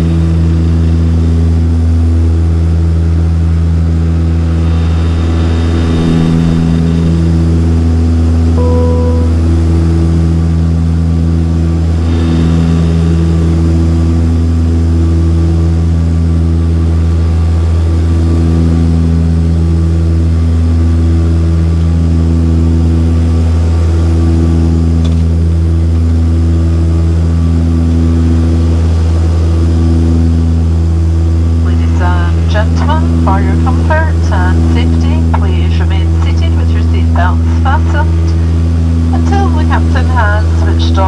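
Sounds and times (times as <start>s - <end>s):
turboprop propeller drone: 0.0s - 41.0s.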